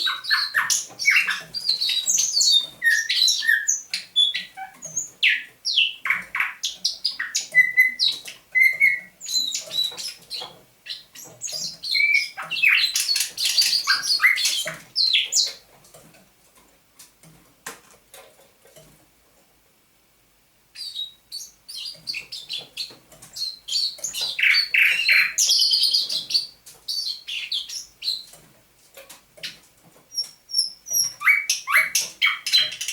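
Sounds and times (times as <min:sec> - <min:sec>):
nightingale singing: 0:00.0 - 0:15.6, 0:20.8 - 0:28.4, 0:29.4 - 0:32.9.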